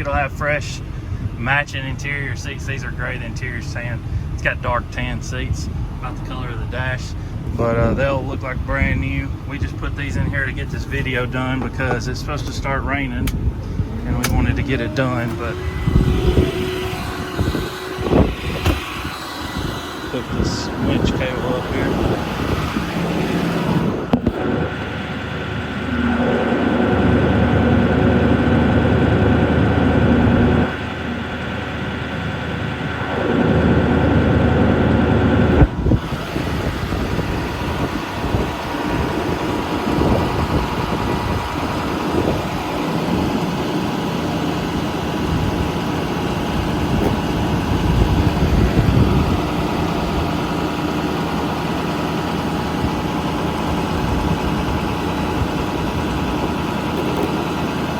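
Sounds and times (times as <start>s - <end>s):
diesel engine idling: 0.0s - 57.9s
winch running: 5.5s - 57.9s.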